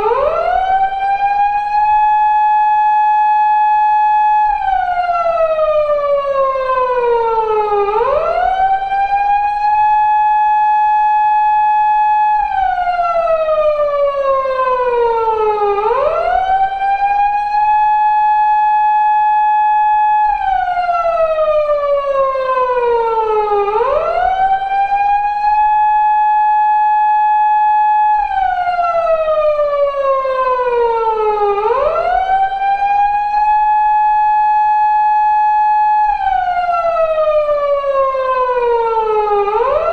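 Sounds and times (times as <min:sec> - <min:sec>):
police car siren: 0:00.0 - 0:39.9.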